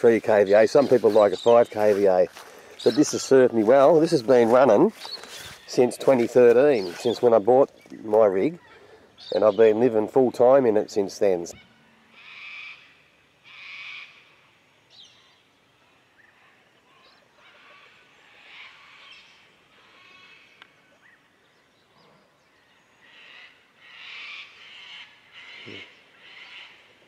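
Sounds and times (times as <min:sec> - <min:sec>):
harsh bird calls: 0:00.0 - 0:27.0.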